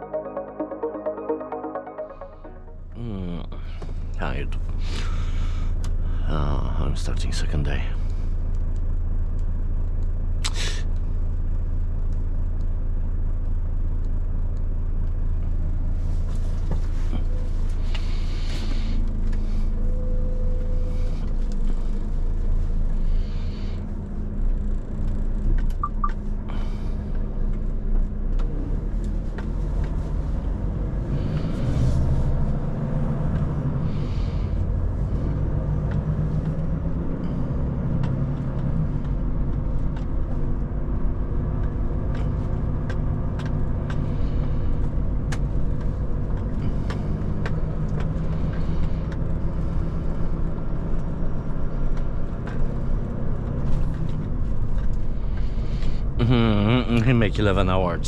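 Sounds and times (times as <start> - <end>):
truck diesel engine drone: 0.0 - 58.0.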